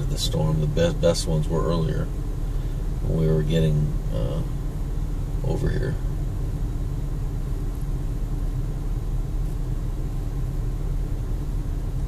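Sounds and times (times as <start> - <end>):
faint steady hum: 0.0 - 12.0
vehicle engine idling: 0.0 - 12.0.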